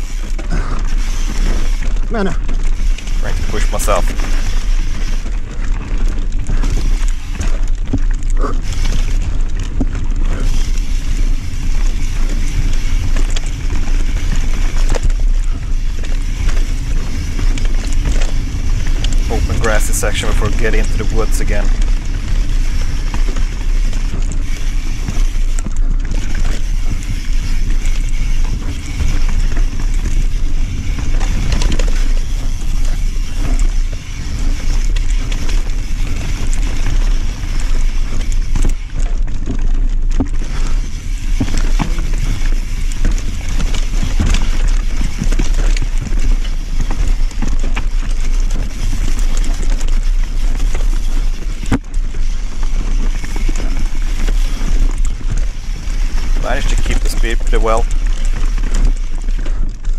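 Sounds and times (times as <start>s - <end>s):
bike knocking over rocks: 0.0s - 59.9s
bike rattling: 0.0s - 59.9s
tyres rumbling on dirt: 0.0s - 59.9s
wind buffeting microphone: 0.0s - 59.9s.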